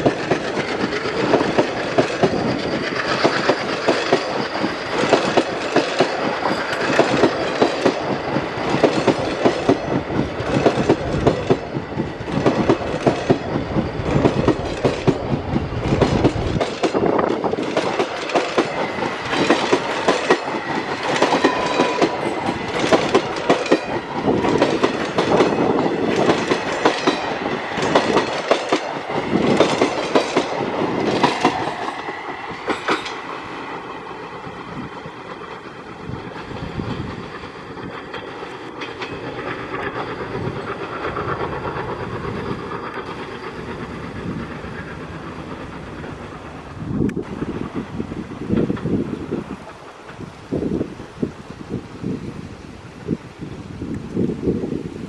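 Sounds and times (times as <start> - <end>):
train wheels clattering: 0.0 - 50.9.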